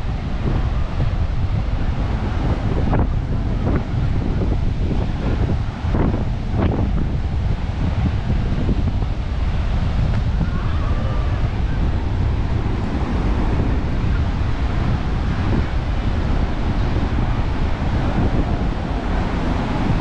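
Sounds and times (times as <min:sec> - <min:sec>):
surf on sandy beach: 0:00.0 - 0:20.0
wind buffeting microphone: 0:00.0 - 0:20.0.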